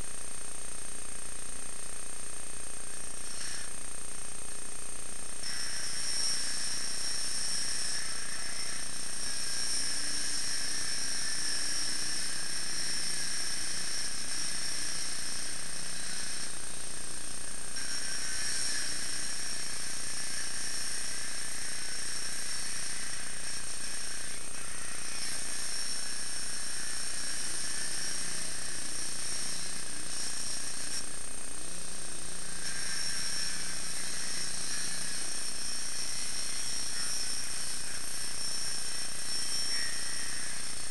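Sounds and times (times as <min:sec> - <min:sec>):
gas-powered saw cutting: 0:03.0 - 0:03.8, 0:05.3 - 0:40.9.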